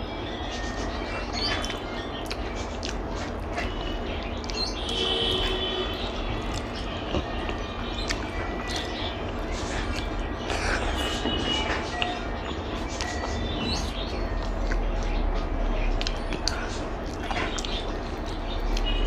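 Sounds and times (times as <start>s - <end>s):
chewing clicks and smacks: 1.4s - 5.1s, 6.3s - 12.2s, 12.8s - 19.0s.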